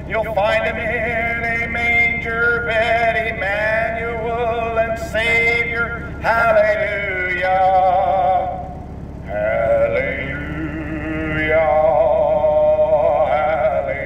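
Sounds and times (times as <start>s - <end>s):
man singing with vibrato: 0.0s - 14.0s.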